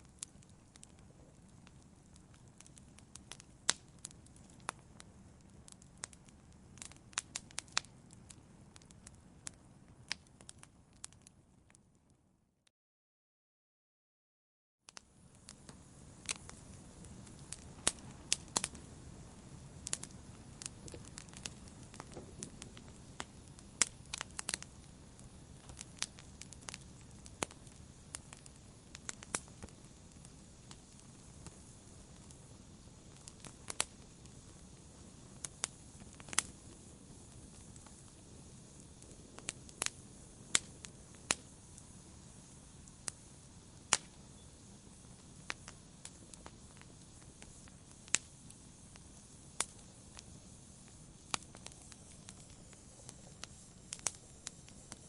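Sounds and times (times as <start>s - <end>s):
wood fire crackling: 0.0s - 12.0s, 14.9s - 55.0s.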